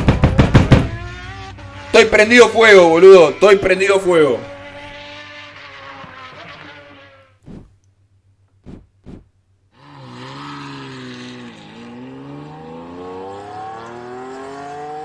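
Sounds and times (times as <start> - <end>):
car engine accelerating hard: 0.0 - 7.3, 9.7 - 15.0.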